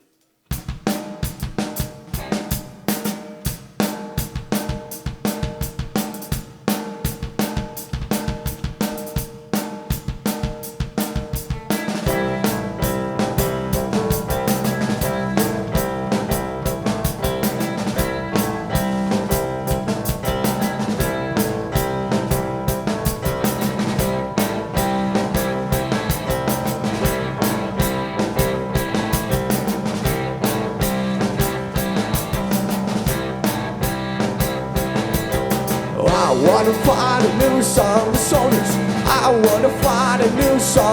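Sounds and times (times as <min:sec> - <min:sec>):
drum kit beat: 0:00.0 - 0:40.9
rock band playing live: 0:00.5 - 0:40.9.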